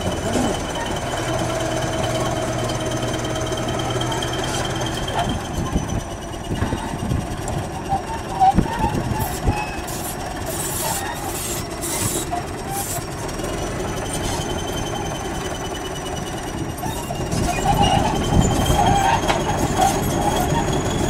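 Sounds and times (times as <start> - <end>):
bulldozer diesel engine running: 0.0 - 21.0
steel tracks squealing: 0.0 - 21.0.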